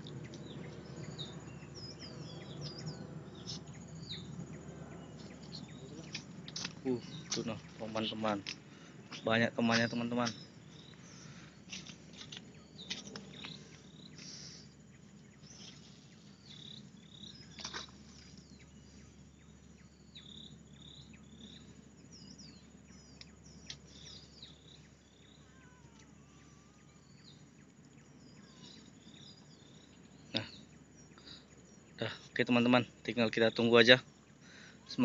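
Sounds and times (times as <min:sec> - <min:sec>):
high chirping calls: 0:00.0 - 0:35.0.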